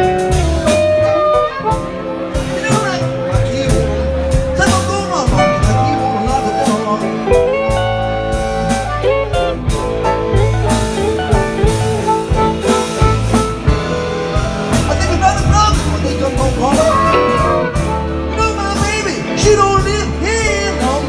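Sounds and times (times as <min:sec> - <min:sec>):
drum kit: 0:00.0 - 0:21.0
electric guitar lead lines: 0:00.0 - 0:21.0
upright bass: 0:00.0 - 0:21.0.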